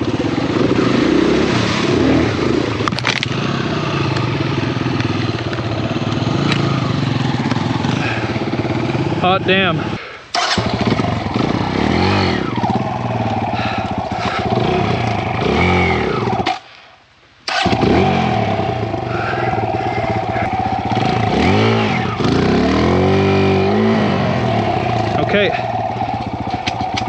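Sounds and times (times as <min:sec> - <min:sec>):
dirt bike engine revving: 0:00.0 - 0:16.6, 0:17.5 - 0:27.0.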